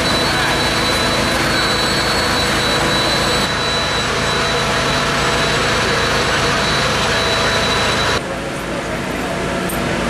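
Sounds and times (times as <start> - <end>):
thin high whine: 0.0 - 8.2
loud machinery engine: 0.0 - 10.0.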